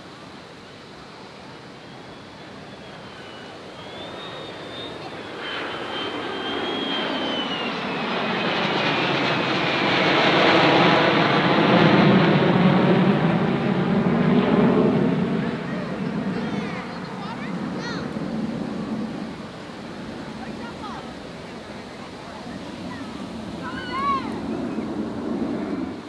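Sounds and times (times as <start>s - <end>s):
military aircraft passing overhead: 0.2s - 26.0s.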